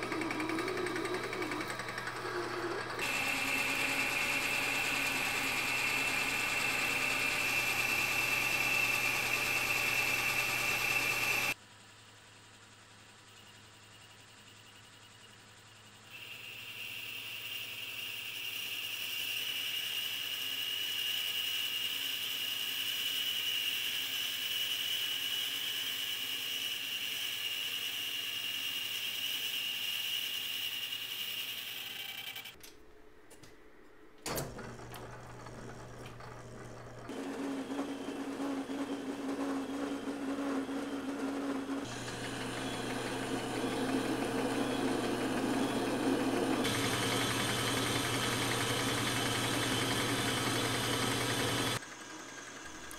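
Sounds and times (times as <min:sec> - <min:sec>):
metal lathe cutting: 0:00.0 - 0:11.6, 0:16.2 - 0:32.6, 0:34.4 - 0:52.9.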